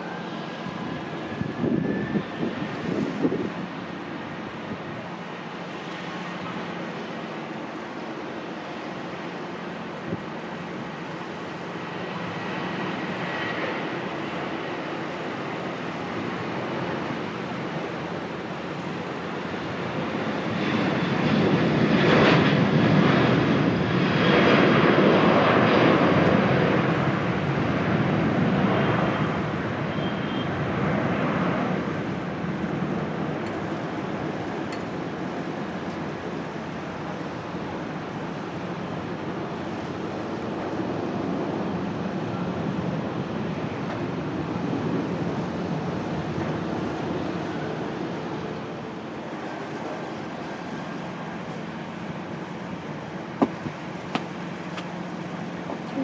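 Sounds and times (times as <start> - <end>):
jet airliner engines: 0.0 - 56.0.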